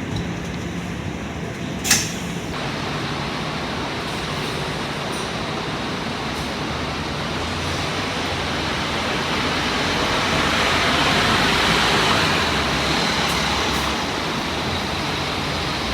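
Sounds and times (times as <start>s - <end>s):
bus engine hum: 0.0s - 15.9s
road noise inside bus: 0.0s - 15.9s.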